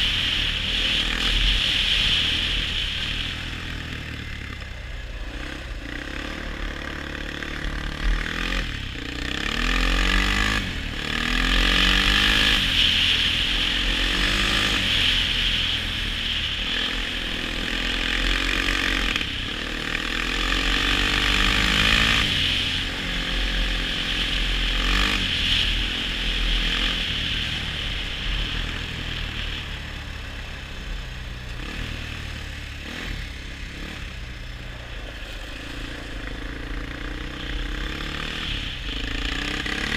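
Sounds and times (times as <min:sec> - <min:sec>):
atv engine accelerating: 0:00.0 - 0:39.9
wind and tyres on icy snow: 0:00.0 - 0:39.9.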